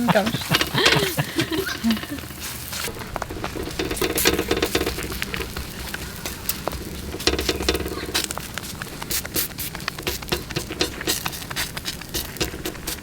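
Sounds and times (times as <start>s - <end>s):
flatbread sizzling in a pan: 0.0s - 13.0s.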